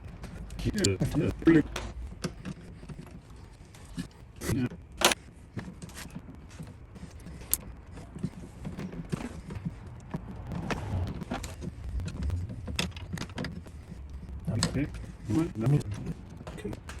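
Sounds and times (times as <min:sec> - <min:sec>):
tools and wires clicking: 0:00.0 - 0:10.2, 0:11.2 - 0:17.0.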